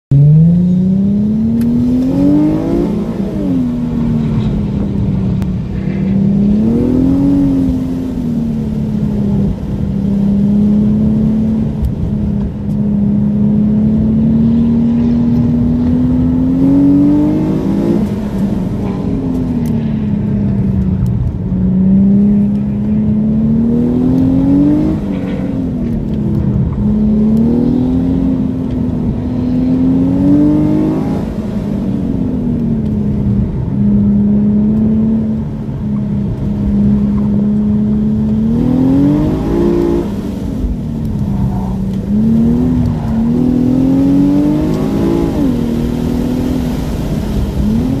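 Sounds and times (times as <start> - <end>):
car engine revving: 0.1 - 48.0.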